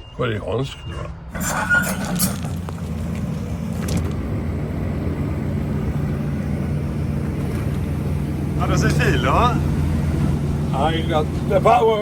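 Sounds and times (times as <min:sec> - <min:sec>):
large engine droning: 0:01.2 - 0:12.0.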